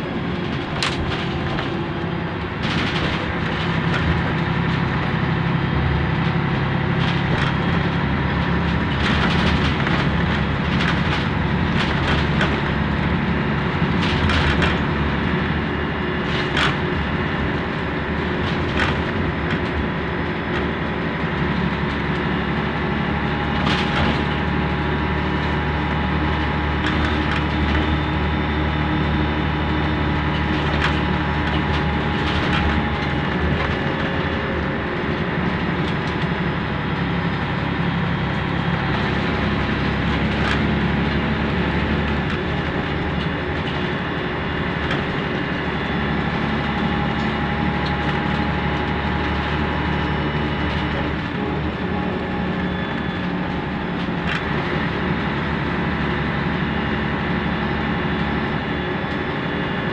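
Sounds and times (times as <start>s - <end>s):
bus body rattling and creaking: 0.0s - 59.9s
bus diesel engine running: 0.0s - 59.9s.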